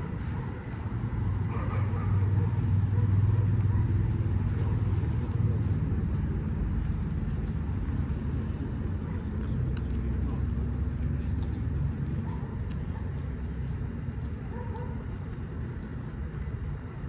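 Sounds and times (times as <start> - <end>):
street noise: 0.0 - 17.0
vehicle engine humming: 0.0 - 17.0.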